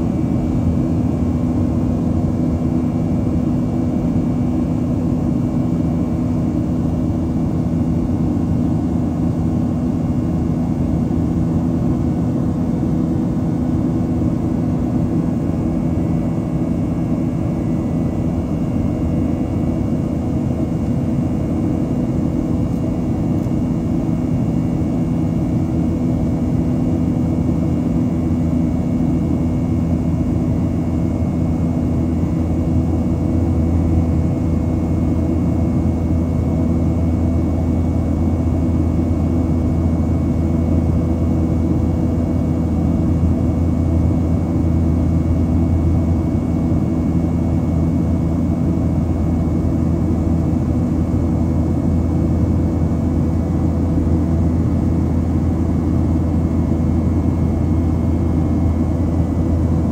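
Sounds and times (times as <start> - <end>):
faint steady hums: 0.0 - 59.9.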